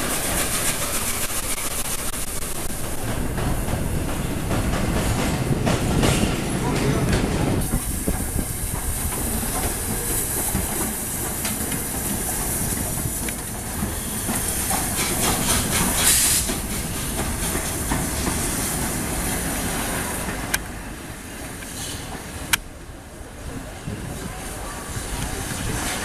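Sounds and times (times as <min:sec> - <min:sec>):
steam locomotive hissing steam: 0:00.0 - 0:22.5.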